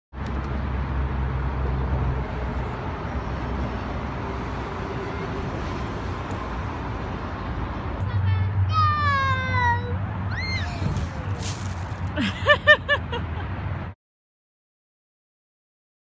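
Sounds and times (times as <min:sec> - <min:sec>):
city traffic noise: 0:00.1 - 0:14.0.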